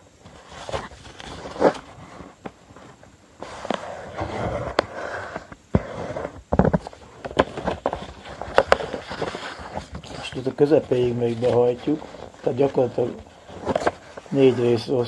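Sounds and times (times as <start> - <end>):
paper rustling and sliding: 0.2 - 15.0.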